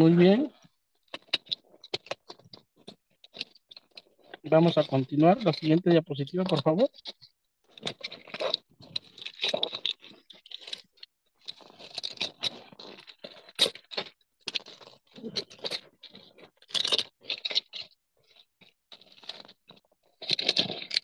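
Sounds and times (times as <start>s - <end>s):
scratching and clicking on microphone: 0.0s - 21.0s.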